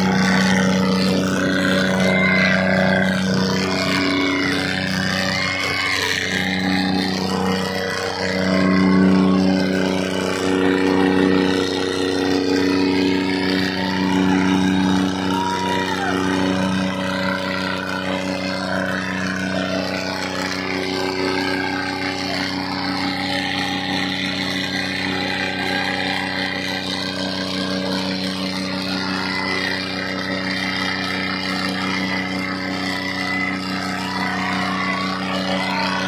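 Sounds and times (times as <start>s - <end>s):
crowd noise: 0.0s - 36.0s
tractor diesel engines straining: 0.0s - 36.0s.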